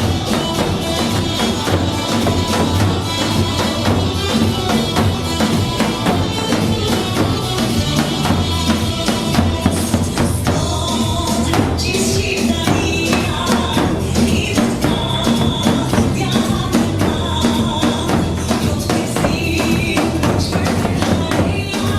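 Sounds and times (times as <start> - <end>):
loud dance music: 0.0 - 21.9.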